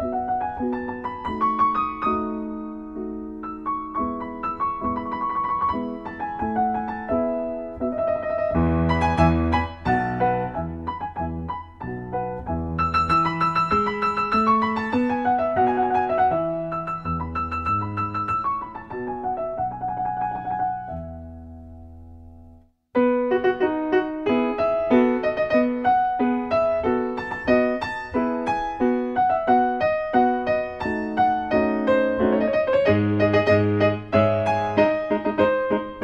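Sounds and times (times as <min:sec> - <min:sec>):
solo piano music: 0:00.0 - 0:36.0.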